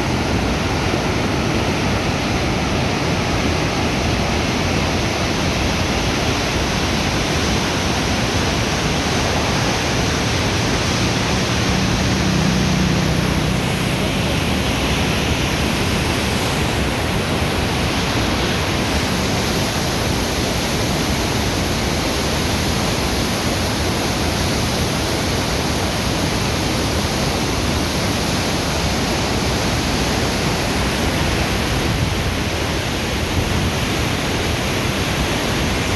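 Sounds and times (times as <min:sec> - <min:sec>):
flowing water rushing: 0:00.0 - 0:35.9.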